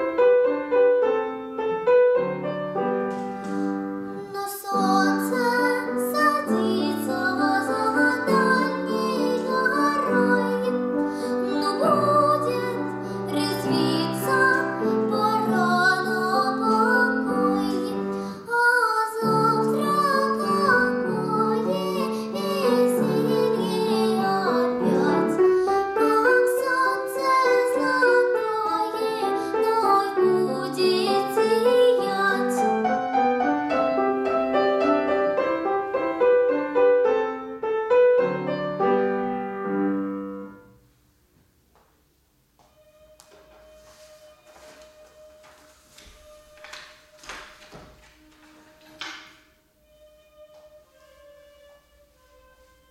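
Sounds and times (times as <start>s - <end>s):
girl singing classical style: 0.0s - 40.7s, 42.7s - 52.9s
piano accompaniment: 0.0s - 41.0s, 41.6s - 52.9s.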